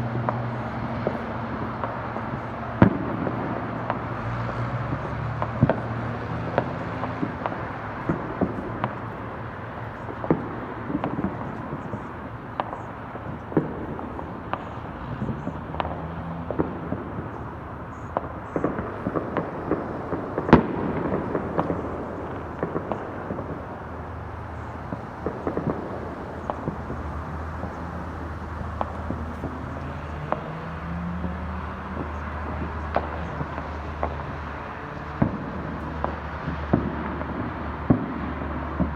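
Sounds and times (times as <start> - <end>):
fireworks popping and cracking: 0.0 - 38.9.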